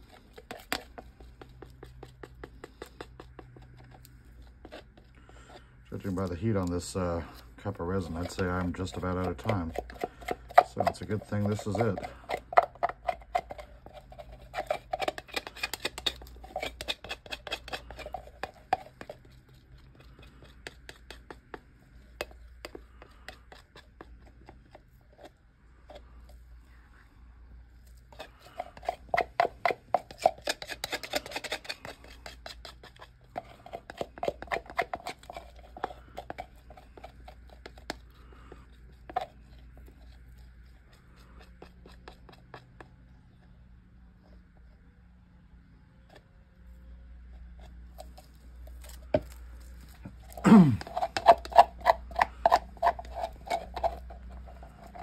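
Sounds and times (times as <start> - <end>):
stir stick scraping plastic cup: 0.0 - 44.8, 46.0 - 55.0.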